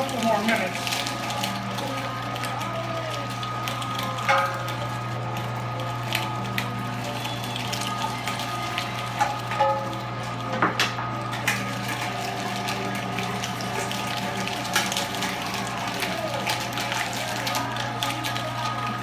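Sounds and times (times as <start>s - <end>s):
electric meat grinder running: 0.0s - 19.0s.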